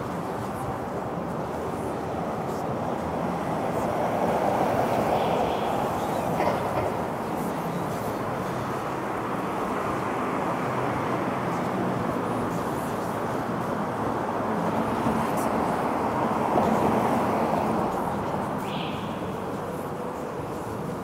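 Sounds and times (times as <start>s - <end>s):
cars passing on road: 0.0s - 21.0s.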